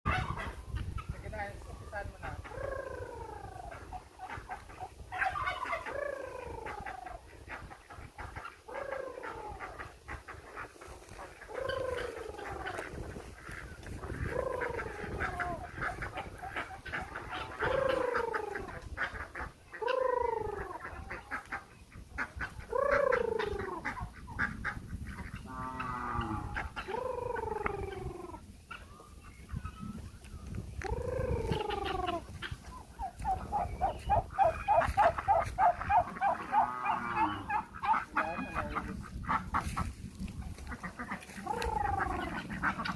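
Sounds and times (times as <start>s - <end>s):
farm animal calling: 0.1s - 42.9s.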